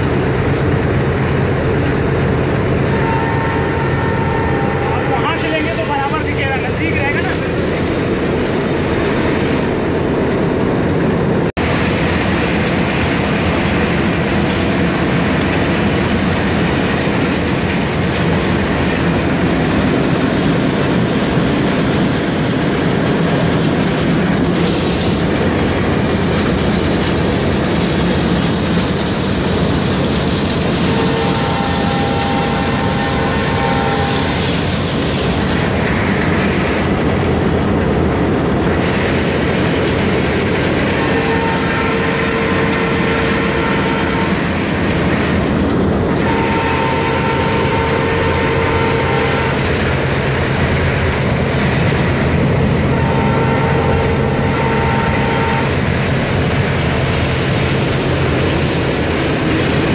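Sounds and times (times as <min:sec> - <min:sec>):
diesel locomotive engine and wheels: 0:00.0 - 0:59.9.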